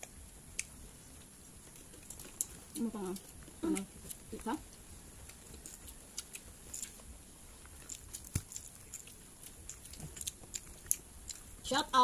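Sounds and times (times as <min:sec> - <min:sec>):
chewing: 0:00.0 - 0:11.7.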